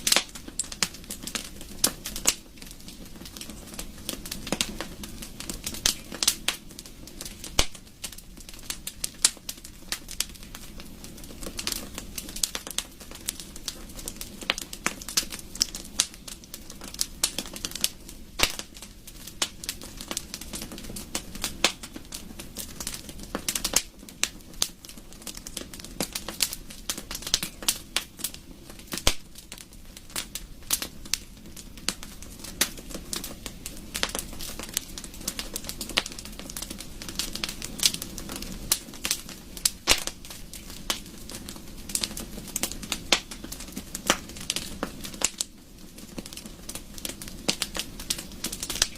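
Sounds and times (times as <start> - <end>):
low rumble of flames: 0.0 - 48.9
wood fire popping and snapping: 0.0 - 48.9.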